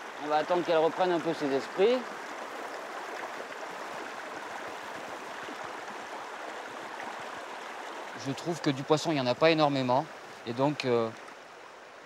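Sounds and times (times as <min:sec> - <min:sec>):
river water flowing over pebbles: 0:00.0 - 0:12.0.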